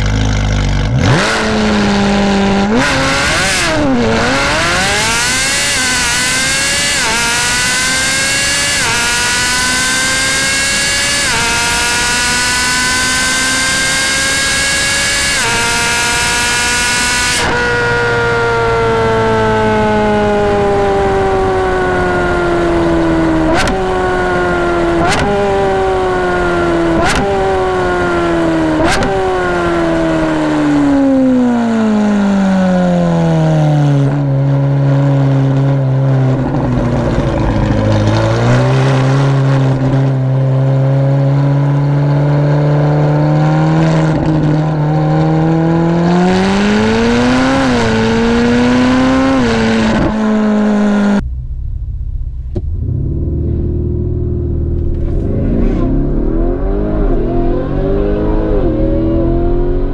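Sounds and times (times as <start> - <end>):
downshift cracks with rev blips: 0.0 - 31.8, 43.0 - 59.9
sports car engine decelerating: 0.0 - 59.9.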